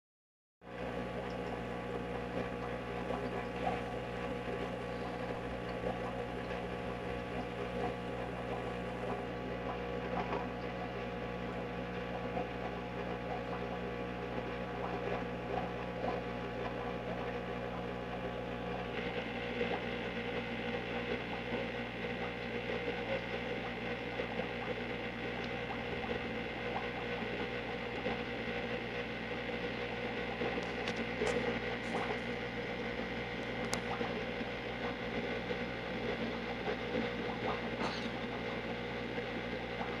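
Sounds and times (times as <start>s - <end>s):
steady machine hum: 0.6s - 40.0s.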